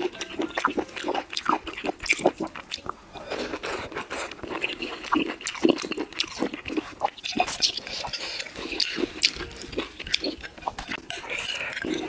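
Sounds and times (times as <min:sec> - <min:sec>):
person chewing with mouth clicks: 0:00.0 - 0:12.0.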